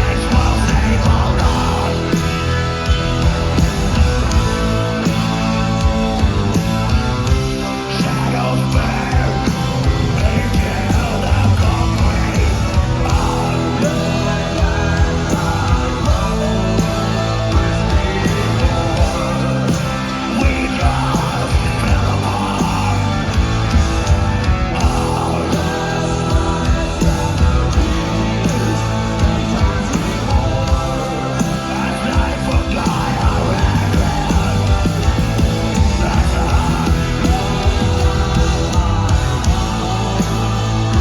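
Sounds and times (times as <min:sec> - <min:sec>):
live rock band playing: 0:00.0 - 0:41.0
shouted sung lead vocal: 0:00.0 - 0:41.0.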